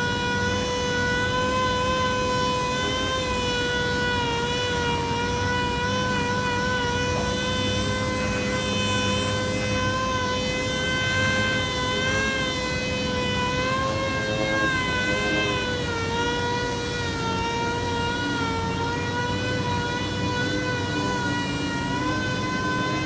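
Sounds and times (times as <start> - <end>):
air orbital sander whining: 0.0 - 23.0.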